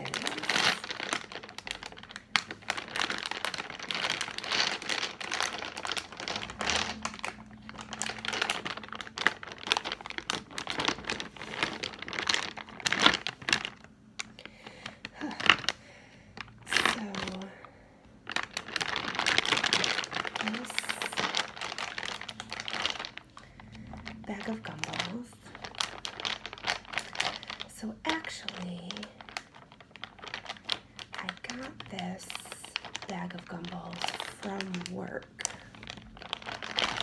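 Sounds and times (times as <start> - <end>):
bag of gumballs crinkling: 0.0 - 37.0.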